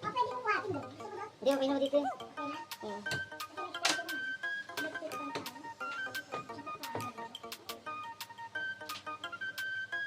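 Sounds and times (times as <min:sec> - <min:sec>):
keyboard melody: 0:00.0 - 0:10.0
percussion beat: 0:00.0 - 0:10.0.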